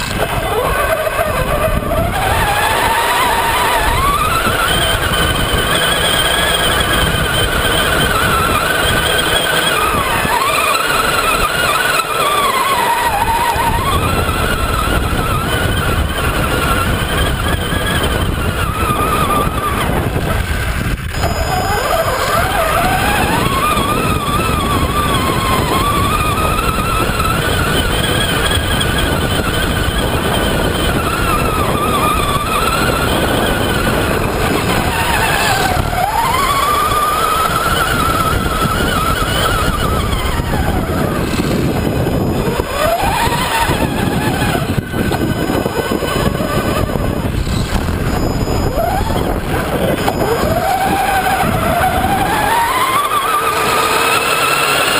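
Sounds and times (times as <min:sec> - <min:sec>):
electric motor whining: 0:00.0 - 0:54.9
tyres rushing on sand: 0:00.0 - 0:54.9
wind: 0:00.0 - 0:54.9.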